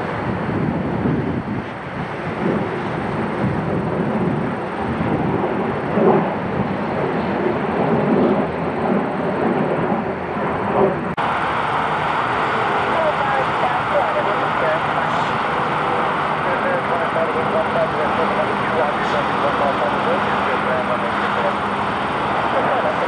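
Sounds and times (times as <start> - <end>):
fighter jet engine rumble: 0.0 - 23.0.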